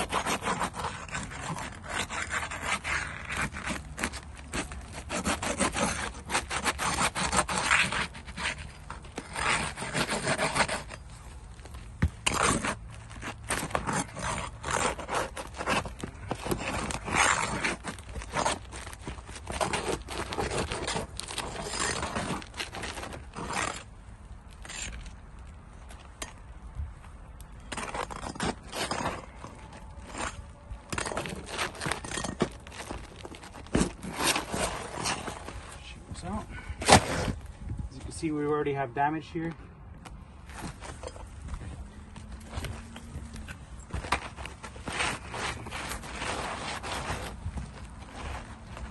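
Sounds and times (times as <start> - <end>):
hand tools scraping shingle: 0.0 - 26.4, 27.6 - 37.5, 42.4 - 48.9.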